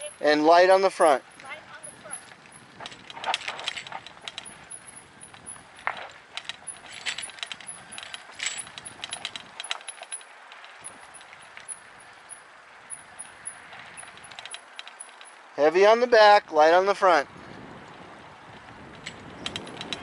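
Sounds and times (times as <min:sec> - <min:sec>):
bike clicking and rattling: 0:00.0 - 0:16.2, 0:16.9 - 0:20.0
tyres rumbling on dirt: 0:00.0 - 0:16.2.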